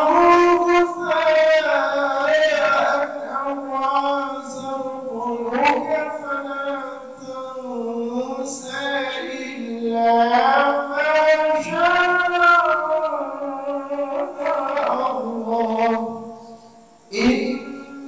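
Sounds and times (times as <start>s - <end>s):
person chanting melodically: 0.0s - 18.0s.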